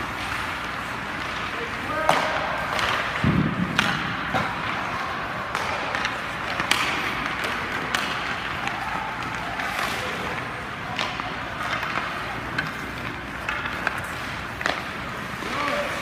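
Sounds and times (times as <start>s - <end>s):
skates scraping on ice: 0.0s - 16.0s
sticks striking pucks: 0.0s - 16.0s.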